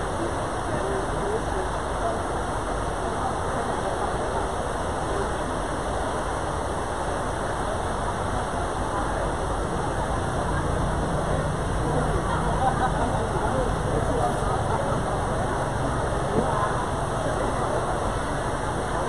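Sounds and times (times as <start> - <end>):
busy hall noise: 0.0 - 19.0
distant murmur of voices: 0.0 - 19.0.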